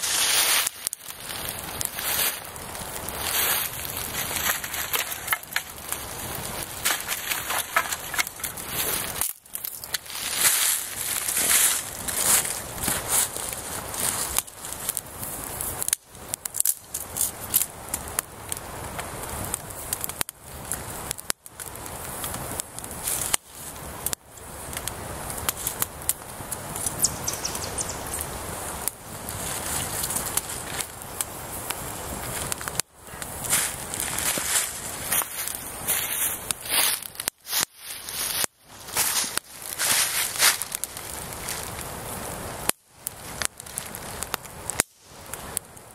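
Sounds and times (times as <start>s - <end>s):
campfire crackling and popping: 0.0s - 45.9s
fire hissing: 0.0s - 45.9s.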